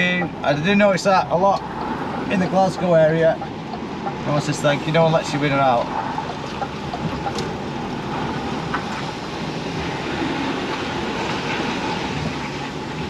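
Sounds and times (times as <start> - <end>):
lorry diesel engine rumble: 0.0 - 13.0.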